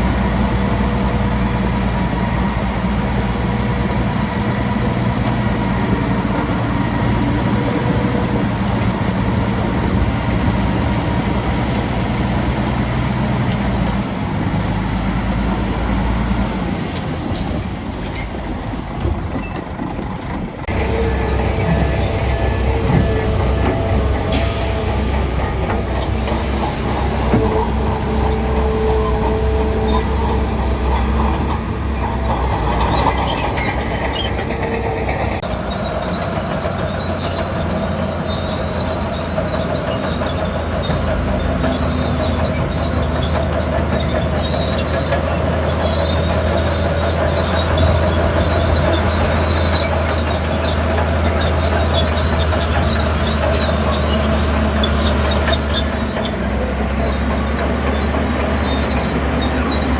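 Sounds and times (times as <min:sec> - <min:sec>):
diesel machinery humming and clattering: 0:00.0 - 0:59.9.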